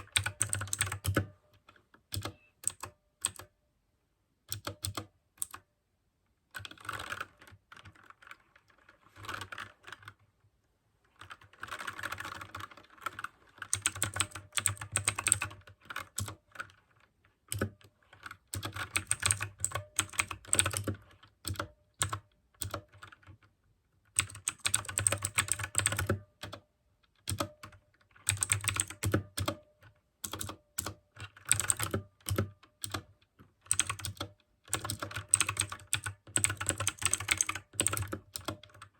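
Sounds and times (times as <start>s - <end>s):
mechanical keyboard typing: 0.0s - 3.5s, 4.5s - 5.6s, 6.5s - 10.2s, 11.1s - 23.5s, 24.1s - 38.9s.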